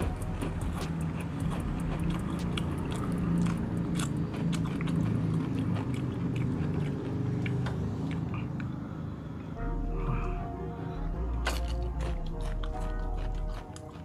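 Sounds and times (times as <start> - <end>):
person chewing crunchy food: 0.0 - 8.9, 11.3 - 14.0.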